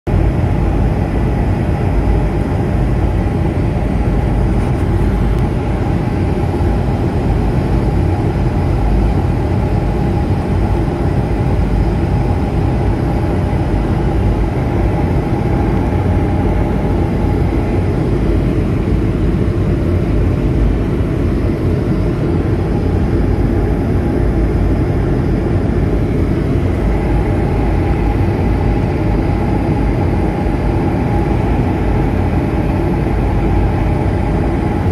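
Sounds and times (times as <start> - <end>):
faint steady engine whine: 0.1 - 34.9
jet airliner cabin drone: 0.1 - 34.9.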